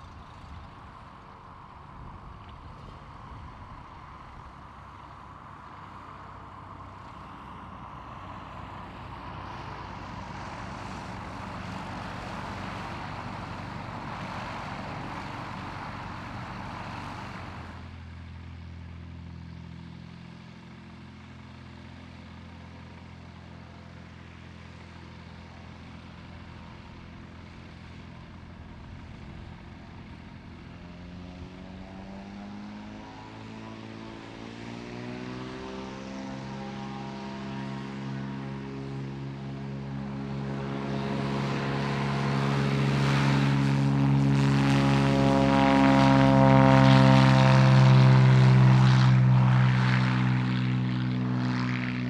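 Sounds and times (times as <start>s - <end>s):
propeller aircraft engine hum: 0.0s - 52.0s.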